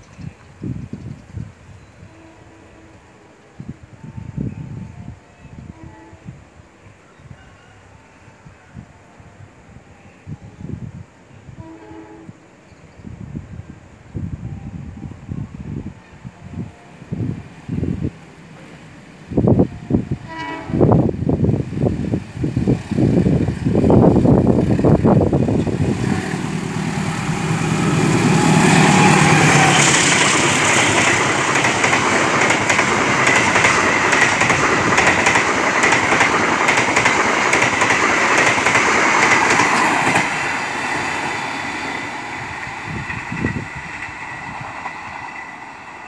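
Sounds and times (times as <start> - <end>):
train passing at speed: 0.0 - 46.0.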